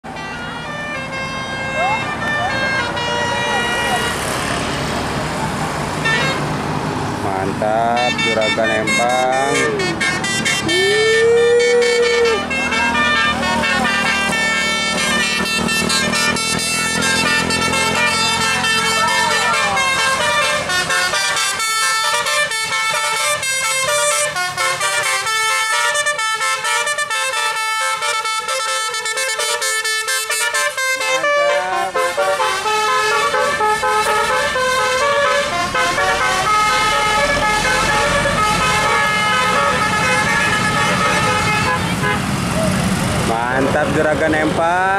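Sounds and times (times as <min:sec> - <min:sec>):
multi-tone air horns playing tune: 0:00.0 - 0:04.6, 0:06.0 - 0:06.5, 0:07.3 - 0:42.3
bus engines running: 0:00.0 - 0:44.9.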